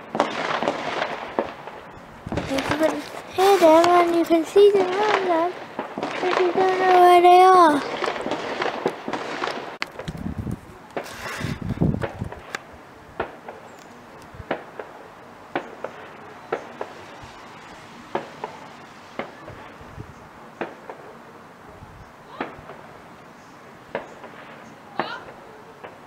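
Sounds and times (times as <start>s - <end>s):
distant fireworks bangs: 0.0s - 21.2s, 22.3s - 23.0s, 23.9s - 26.0s.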